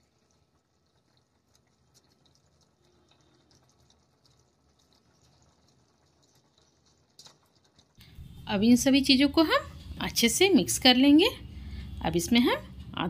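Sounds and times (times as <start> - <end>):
faint cooking ticks and crackle: 0.0 - 13.0.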